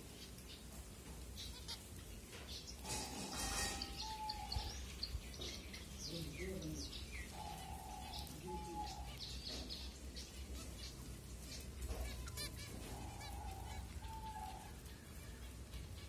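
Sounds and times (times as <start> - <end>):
finches chirping: 1.3 - 16.0.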